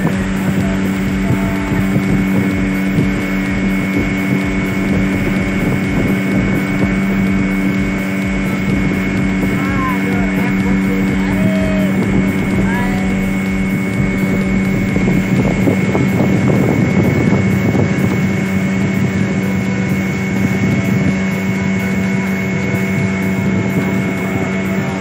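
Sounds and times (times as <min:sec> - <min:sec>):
outboard motor drone: 0:00.0 - 0:25.0
wind noise on microphone: 0:00.0 - 0:25.0.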